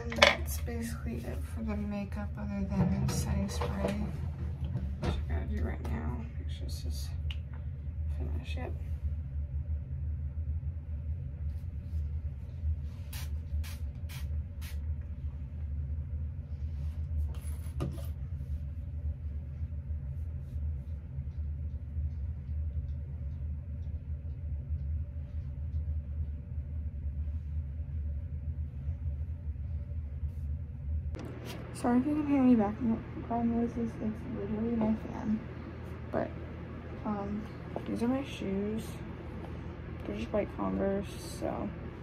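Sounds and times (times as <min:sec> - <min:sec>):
electric fan humming: 0:00.0 - 0:42.0.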